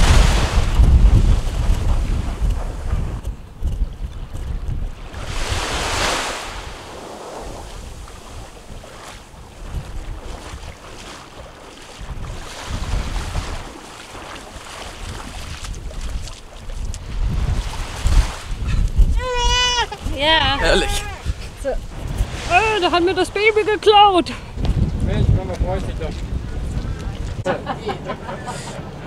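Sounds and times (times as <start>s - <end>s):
small waves washing onto shore: 0.0s - 29.0s
wind buffeting microphone: 0.0s - 29.0s.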